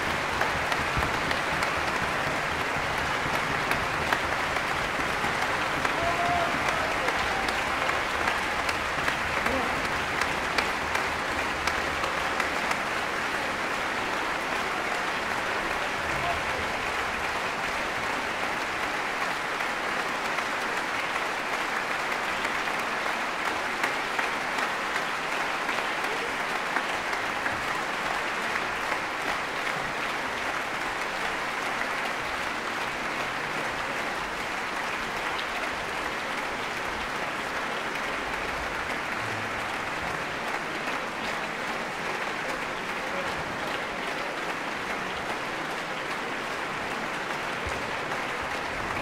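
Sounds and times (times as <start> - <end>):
audience applauding: 0.0 - 49.0.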